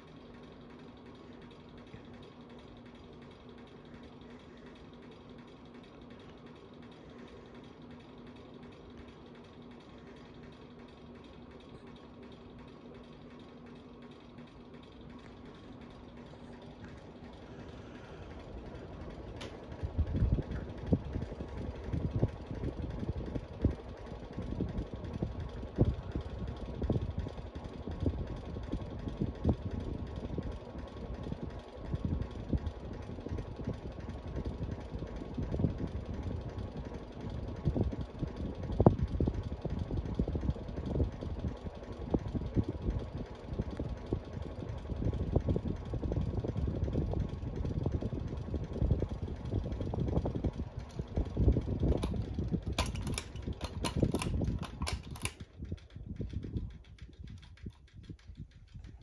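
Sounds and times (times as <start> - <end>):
ceiling fan motor hum: 0.0 - 59.0
rush of spinning fan blades: 0.0 - 59.0.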